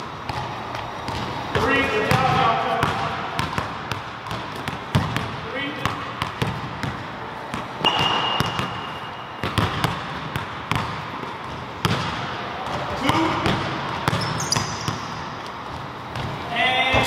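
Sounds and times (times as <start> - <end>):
basketballs bouncing on hardwood floor: 0.1 - 17.0.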